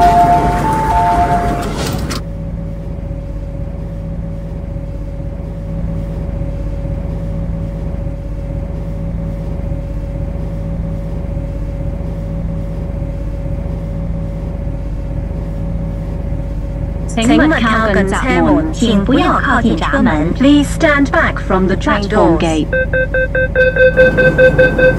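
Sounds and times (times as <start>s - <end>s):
train electrical hum: 0.0s - 24.9s.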